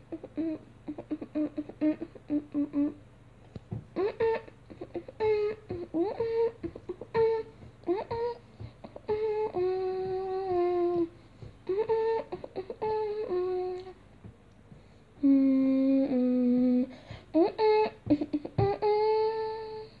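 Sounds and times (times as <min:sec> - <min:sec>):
person humming a tune: 0:00.0 - 0:20.0.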